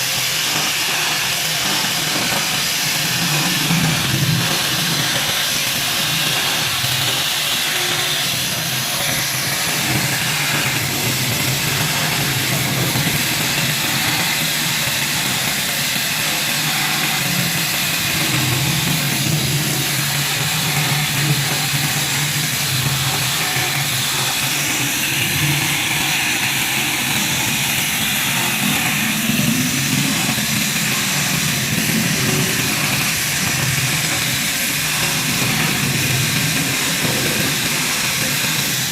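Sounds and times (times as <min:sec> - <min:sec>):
power tool hissing: 0:00.0 - 0:38.9.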